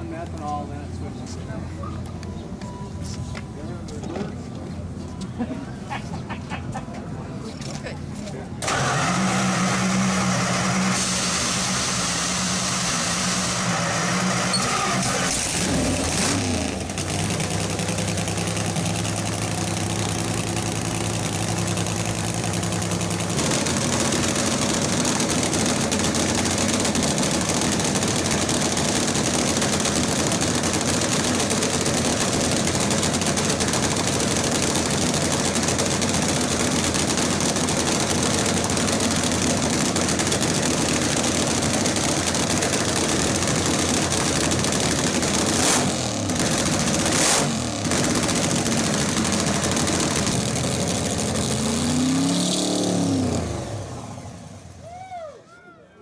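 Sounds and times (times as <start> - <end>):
drag-racing engine idling: 0.0 - 54.9.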